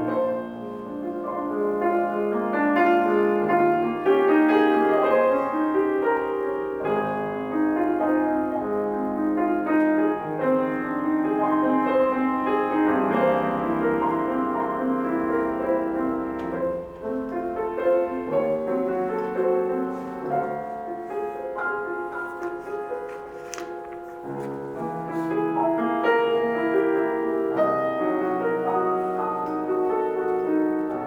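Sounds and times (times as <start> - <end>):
solo classical piano: 0.0 - 31.0.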